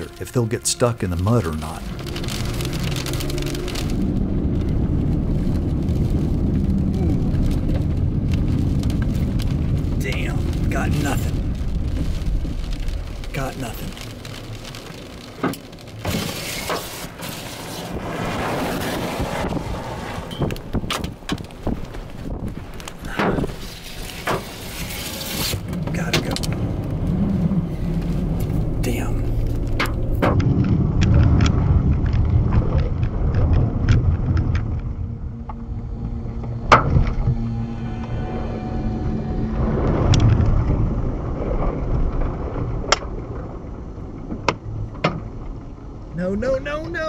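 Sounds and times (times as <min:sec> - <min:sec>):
vehicle low rumble: 0:00.0 - 0:47.0
wind buffeting microphone: 0:01.8 - 0:13.4, 0:17.1 - 0:24.8, 0:25.5 - 0:46.1.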